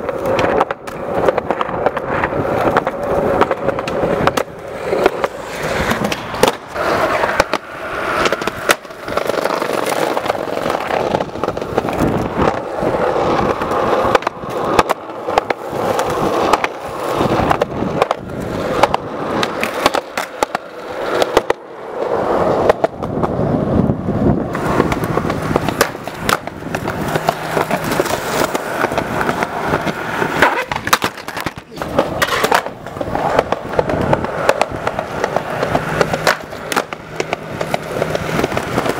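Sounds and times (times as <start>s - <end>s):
skateboard clacks: 0.0s - 38.9s
skateboard wheels rolling on concrete: 0.0s - 38.9s.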